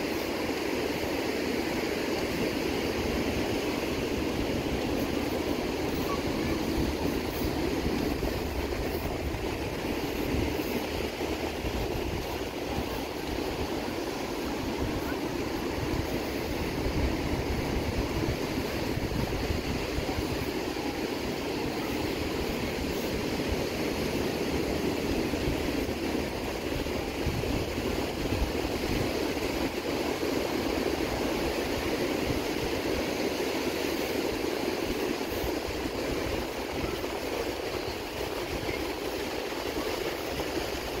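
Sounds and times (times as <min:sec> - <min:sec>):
ocean surf roaring: 0:00.0 - 0:41.0.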